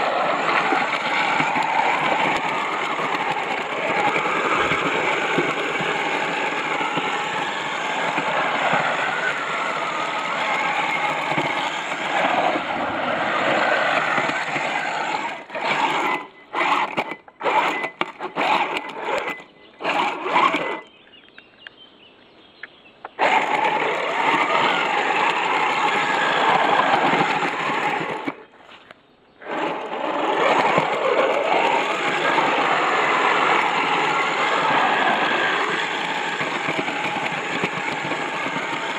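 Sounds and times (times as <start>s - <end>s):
tracks driving through mud and water: 0.0s - 20.8s, 23.2s - 38.9s
rc vehicle motor running: 0.0s - 21.0s, 23.2s - 28.8s, 29.4s - 38.9s.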